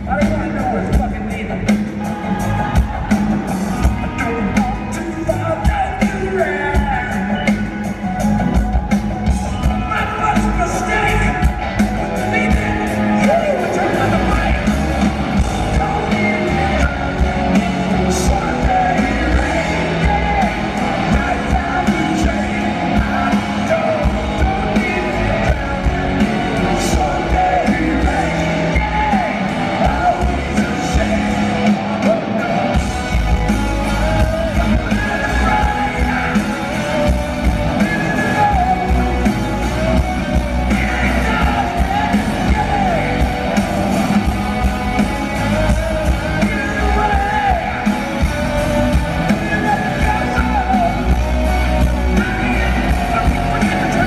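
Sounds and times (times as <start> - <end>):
bass guitar: 0.0 - 54.0
drums: 0.0 - 54.0
electric guitars: 0.0 - 54.0
lead vocals: 0.0 - 54.0.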